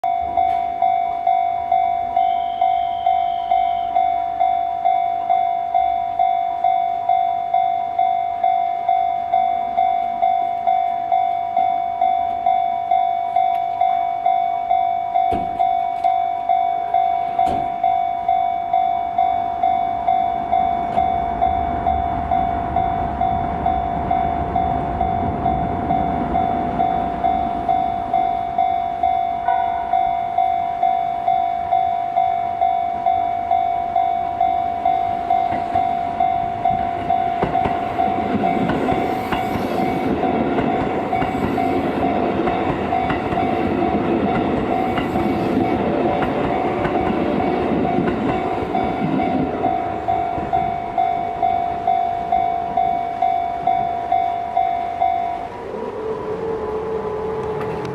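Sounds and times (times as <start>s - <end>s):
electric train rumbling over crossing: 0.0s - 57.9s
level crossing warning bell ringing: 0.0s - 57.9s.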